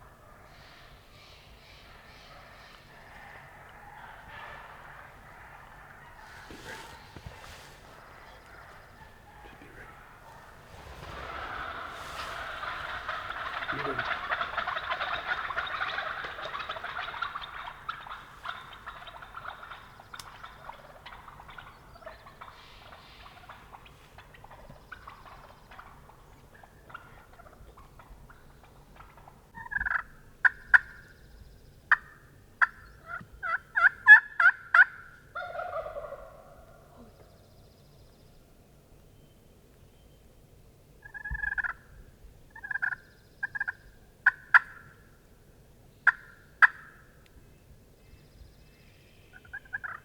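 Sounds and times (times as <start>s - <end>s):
wild turkeys calling: 0.0s - 31.2s, 31.9s - 37.4s, 41.0s - 41.9s, 42.5s - 45.1s, 46.0s - 47.4s, 49.3s - 50.0s.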